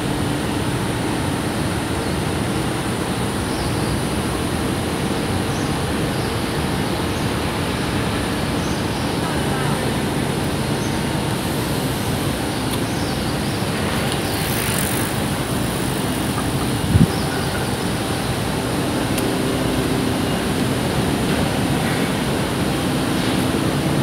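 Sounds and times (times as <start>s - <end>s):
outdoor ambient roar: 0.0s - 24.0s.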